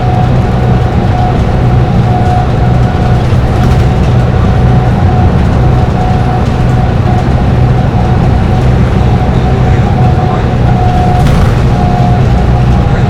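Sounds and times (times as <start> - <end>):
bus engine running under load: 0.0 - 13.0
high whine: 0.0 - 13.0.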